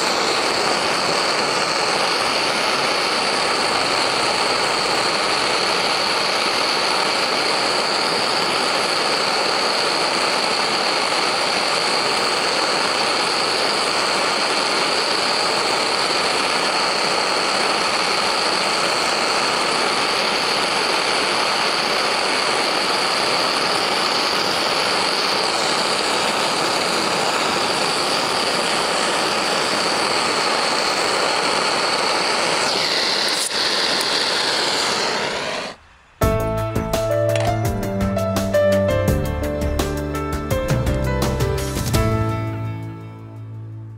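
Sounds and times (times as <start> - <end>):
gas torch flame hissing: 0.0 - 36.2.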